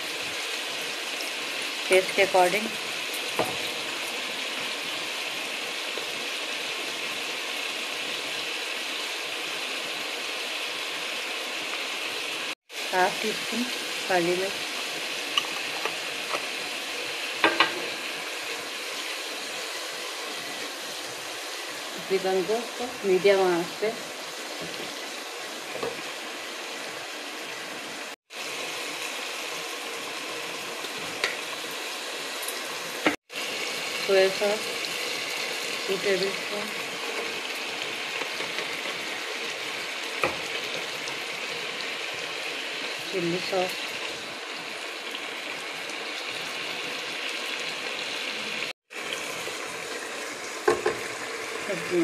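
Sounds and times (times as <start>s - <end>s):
chicken sizzling in hot oil: 0.0s - 52.0s.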